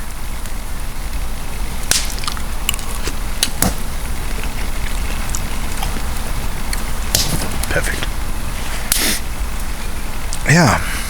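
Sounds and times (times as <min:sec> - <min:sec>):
campfire crackling: 0:00.0 - 0:11.0
fire popping: 0:00.0 - 0:11.0.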